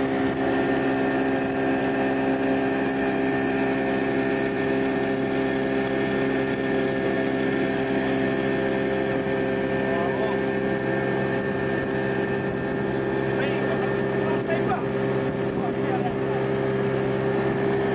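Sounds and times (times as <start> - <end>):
motorboat engine droning: 0.0 - 17.9.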